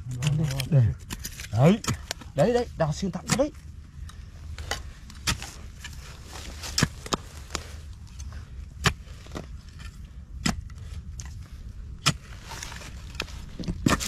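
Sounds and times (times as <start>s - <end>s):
digging tool striking hard earth: 0.0s - 3.6s, 4.6s - 7.6s, 8.7s - 11.4s, 12.0s - 14.0s.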